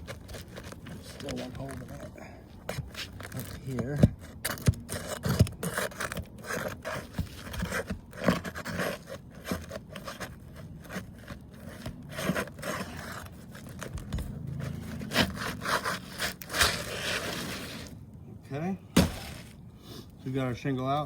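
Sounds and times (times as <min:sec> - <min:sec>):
roof shingle scraping: 0:00.0 - 0:18.0, 0:18.9 - 0:19.7.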